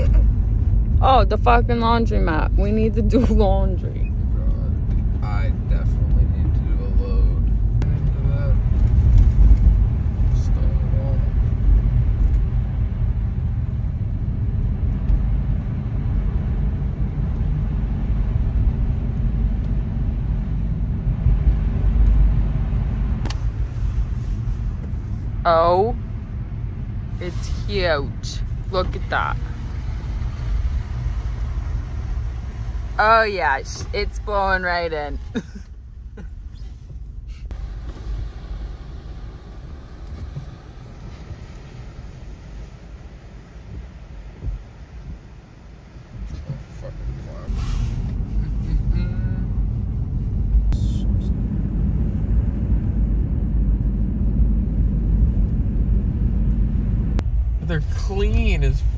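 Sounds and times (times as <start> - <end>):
car engine and tyres rumbling: 0.0 - 58.9.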